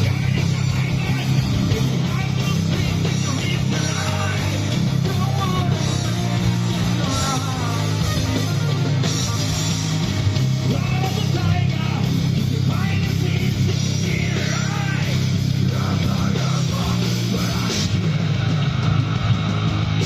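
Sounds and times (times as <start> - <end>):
person singing: 0.0 - 9.8, 10.7 - 19.4
live rock band playing: 0.0 - 20.0.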